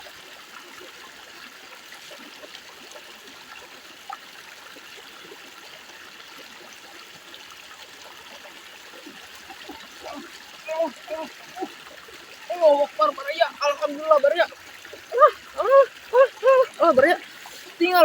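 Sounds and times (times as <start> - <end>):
water trickling in a stream: 0.0 - 18.0.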